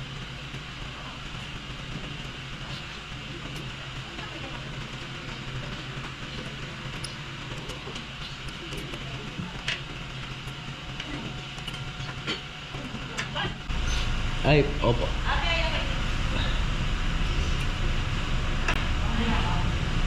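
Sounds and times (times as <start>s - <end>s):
workshop background rumble: 0.0s - 20.0s.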